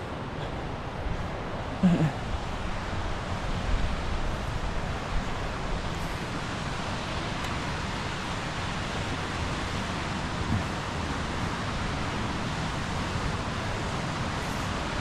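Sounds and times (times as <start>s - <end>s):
creek cascading over rocks: 0.8s - 15.0s.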